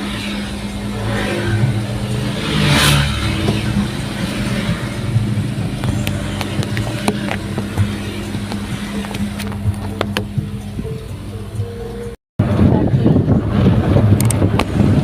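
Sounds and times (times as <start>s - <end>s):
road noise rushing: 0.0s - 15.0s
vehicle engine hum: 0.0s - 15.0s.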